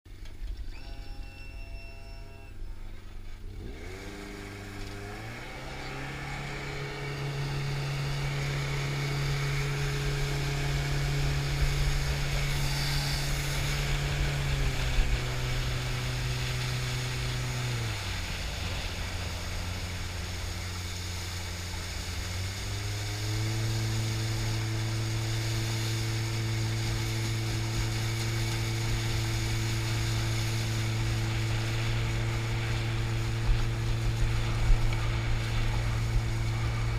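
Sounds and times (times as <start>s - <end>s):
jet boat engine running: 0.1s - 36.9s.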